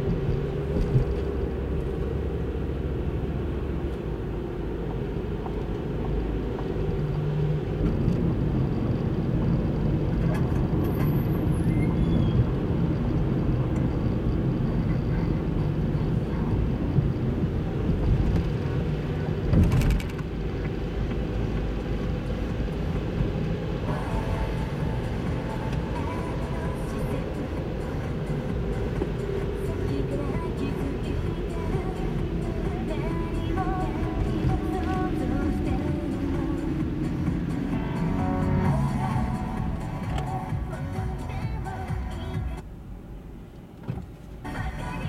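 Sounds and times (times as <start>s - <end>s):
car engine hum: 0.0s - 45.0s
tyre noise on wet road: 0.0s - 45.0s.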